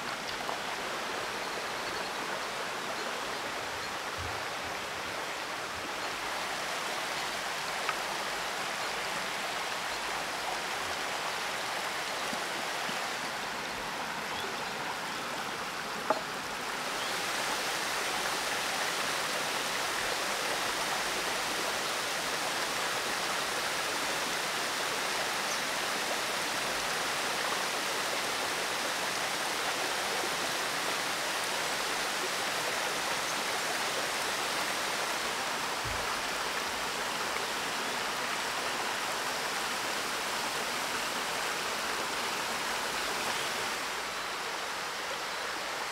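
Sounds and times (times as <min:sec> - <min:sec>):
forest stream running: 0:00.0 - 0:45.9.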